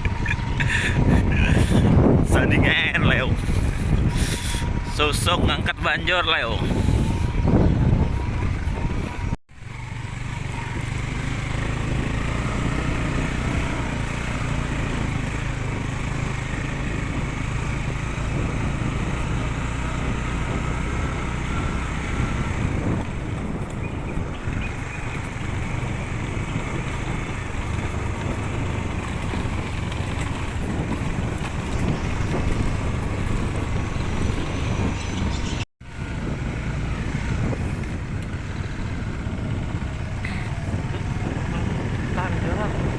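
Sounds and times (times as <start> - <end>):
small engine running: 0.0 - 2.0, 3.4 - 5.0, 6.6 - 42.9.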